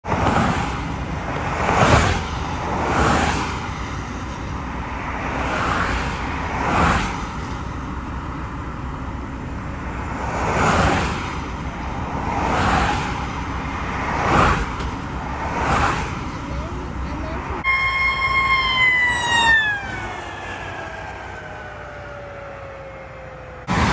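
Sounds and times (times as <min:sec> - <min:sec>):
steady road rumble: 0:00.0 - 0:23.9
vehicles whooshing past: 0:00.0 - 0:23.9.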